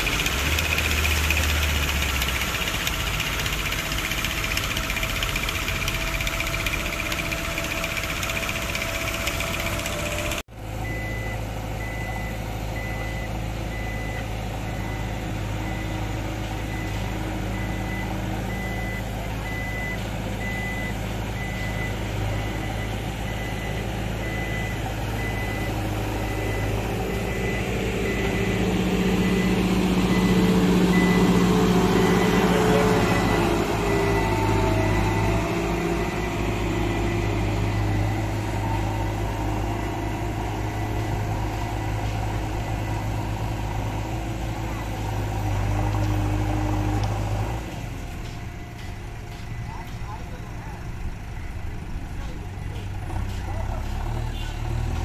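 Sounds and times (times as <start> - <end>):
reversing alarm beeping: 0.0 - 54.5
diesel engines running: 0.0 - 55.0.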